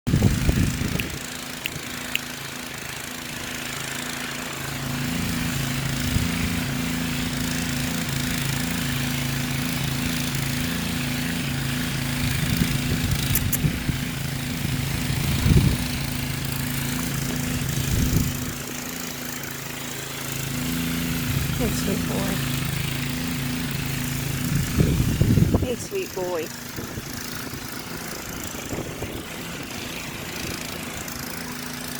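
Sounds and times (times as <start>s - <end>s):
pump engine running: 0.1s - 31.9s.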